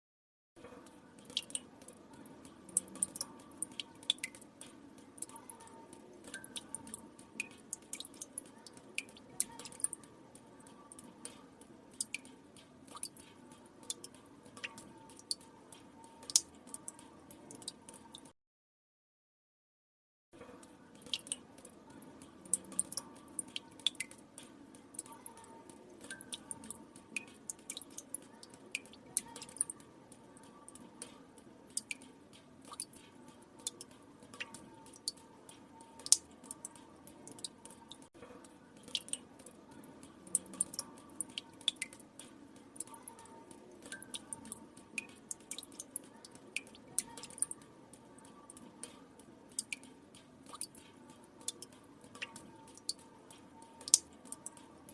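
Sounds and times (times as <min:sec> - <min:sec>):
water drops dripping into water: 0:00.6 - 0:18.3, 0:20.4 - 0:54.9.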